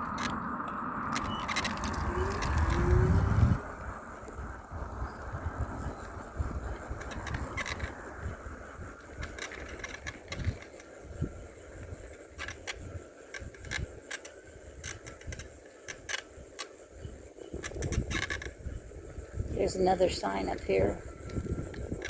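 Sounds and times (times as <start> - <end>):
bicycle mechanism clicking: 0.0 - 3.6, 5.7 - 19.2, 21.1 - 22.0
bicycle tyres rumbling on road: 0.0 - 22.0.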